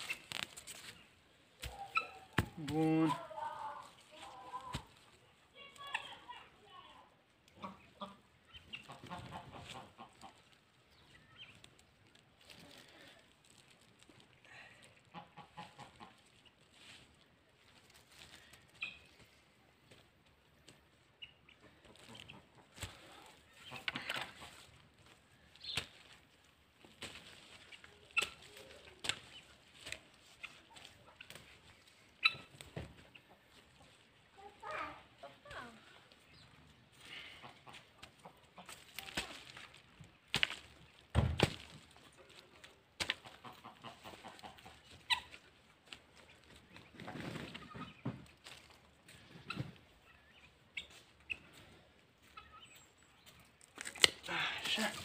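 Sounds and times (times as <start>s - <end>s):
chickens clucking faintly: 0.0s - 41.0s, 41.8s - 55.0s.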